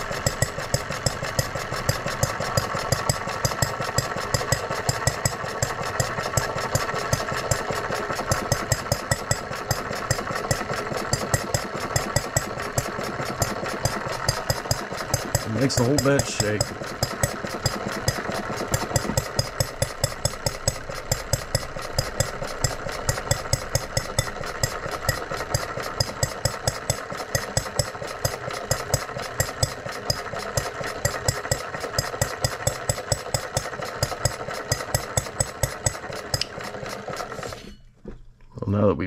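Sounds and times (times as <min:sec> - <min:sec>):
model engine knocking: 0:00.0 - 0:37.6.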